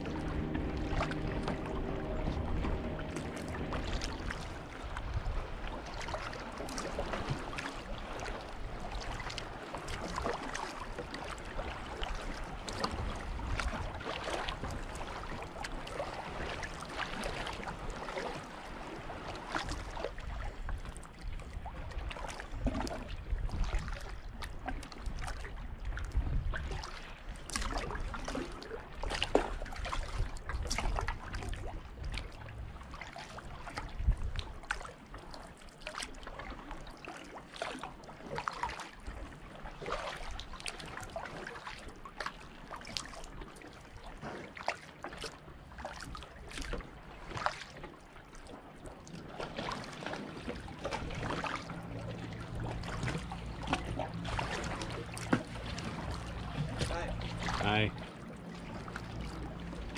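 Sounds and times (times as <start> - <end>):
small splashes: 0.0 - 59.9
water lapping against hull: 0.0 - 59.9.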